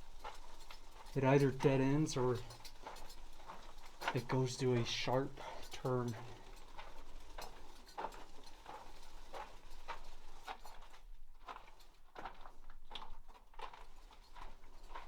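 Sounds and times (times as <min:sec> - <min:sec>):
footsteps on rocky tunnel floor: 0:00.0 - 0:15.0.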